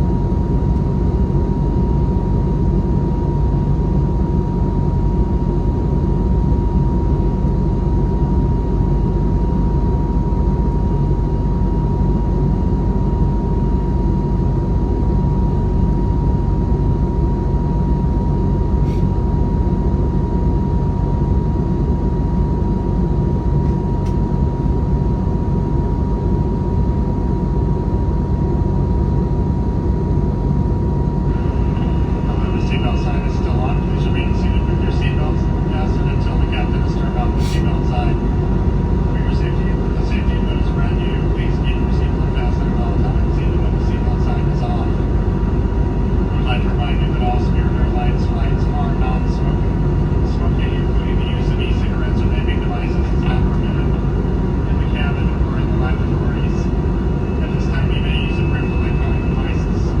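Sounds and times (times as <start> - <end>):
airliner engine and airflow rumble: 0.0 - 60.0
faint steady whine: 0.0 - 60.0.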